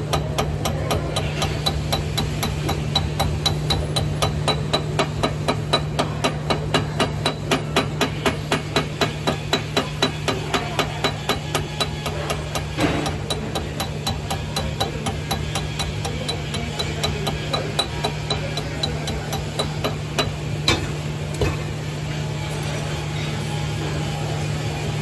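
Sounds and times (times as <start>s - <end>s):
chipping hammer on steel: 0.0s - 20.9s.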